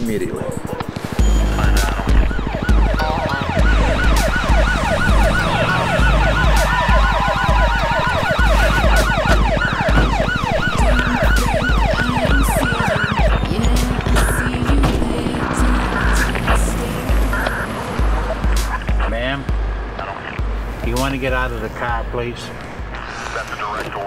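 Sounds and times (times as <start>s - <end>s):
police sirens yelping: 0.0s - 24.0s
low pulsing beat: 0.6s - 22.2s.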